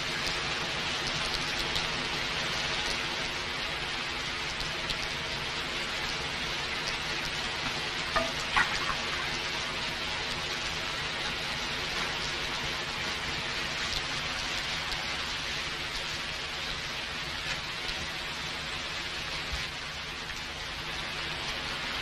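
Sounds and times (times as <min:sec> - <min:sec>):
faint crackles: 0:00.0 - 0:22.0
steady hiss: 0:00.0 - 0:22.0.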